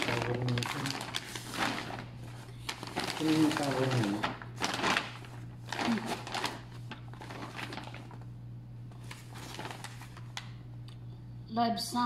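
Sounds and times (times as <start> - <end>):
plastic bag rustling and crinkling: 0.0 - 8.3, 8.9 - 10.6
steady low hum: 0.0 - 12.0.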